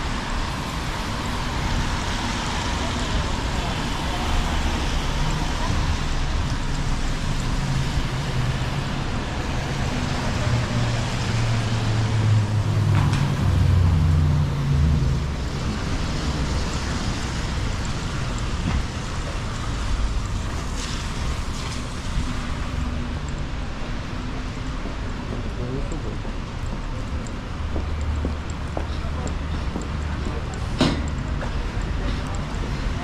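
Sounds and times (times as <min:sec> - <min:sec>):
tyres on wet road: 0:00.0 - 0:33.0.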